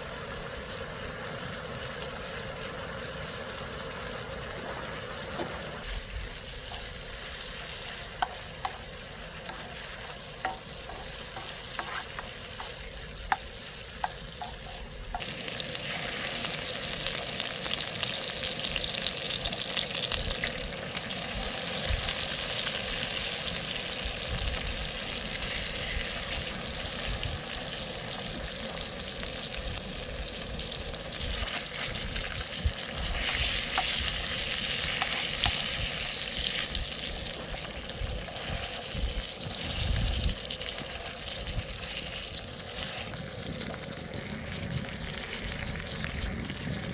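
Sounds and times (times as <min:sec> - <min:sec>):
food sizzling in oil: 0:00.0 - 0:46.9.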